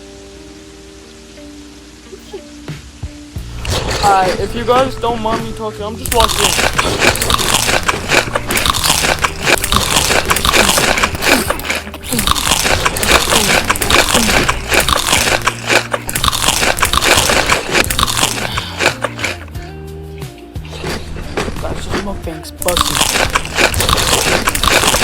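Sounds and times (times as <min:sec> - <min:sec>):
crunchy biting and chewing: 0:03.5 - 0:19.6, 0:20.6 - 0:25.0.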